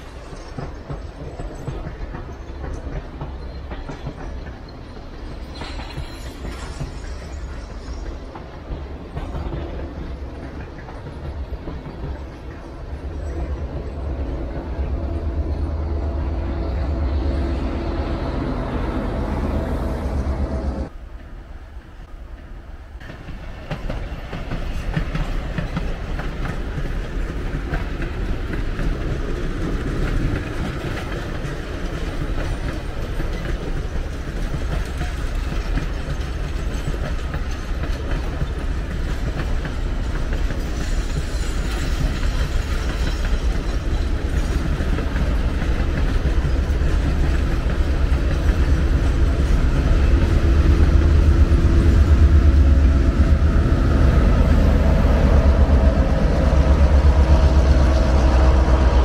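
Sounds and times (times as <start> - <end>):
train coaches rolling on rails: 0.0 - 59.0.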